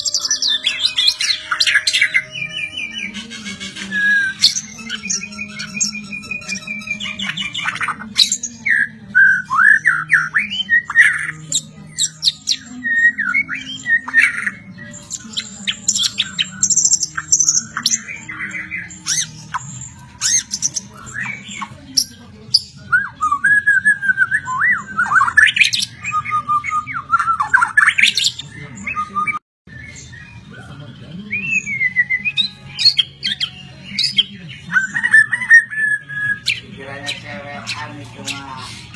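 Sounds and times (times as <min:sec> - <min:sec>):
bird singing whistles and trills: 0:00.0 - 0:38.9.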